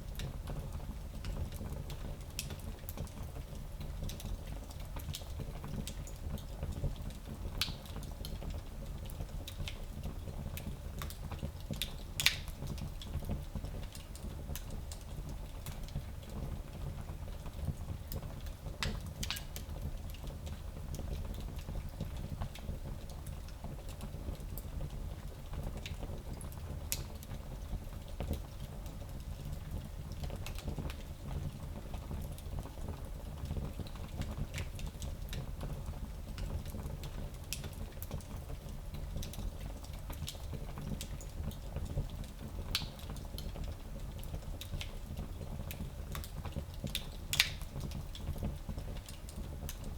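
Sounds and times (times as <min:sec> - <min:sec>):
wood fire crackling: 0:00.1 - 0:49.9.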